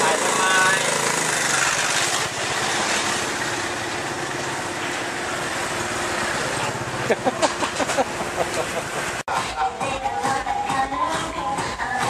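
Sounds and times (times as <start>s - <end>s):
scooter engines in traffic: 0.0s - 12.0s.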